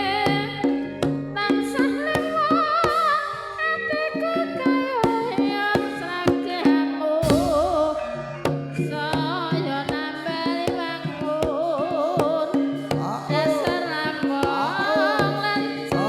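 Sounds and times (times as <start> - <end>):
sharp hand drum strokes: 0.0 - 16.0.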